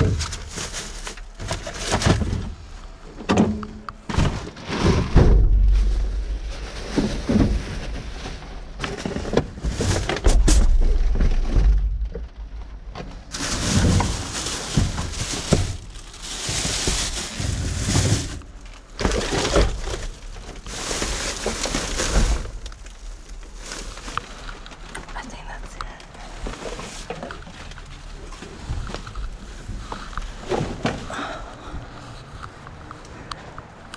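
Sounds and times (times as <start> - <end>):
plastic and cardboard rustling: 0.0 - 33.9.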